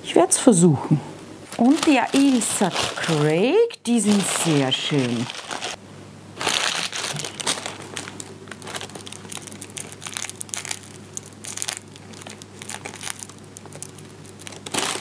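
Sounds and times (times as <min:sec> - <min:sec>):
paper packet crinkling: 0:01.5 - 0:05.8, 0:06.4 - 0:15.0.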